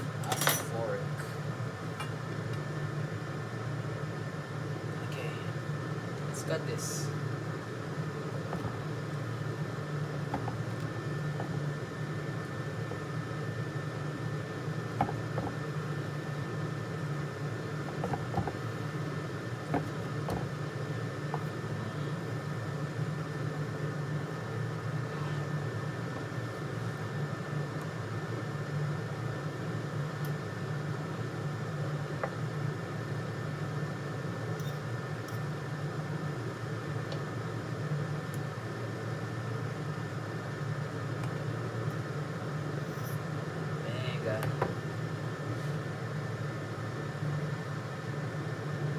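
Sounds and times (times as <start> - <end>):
appliance or fan humming: 0.0 - 48.9.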